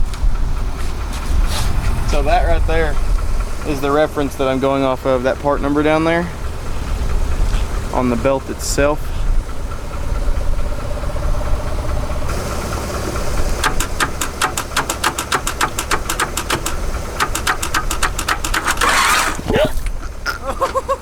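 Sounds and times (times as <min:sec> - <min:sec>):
starter cranking car engine: 0:00.0 - 0:21.0
fast even chuffing of cylinders: 0:00.2 - 0:21.0.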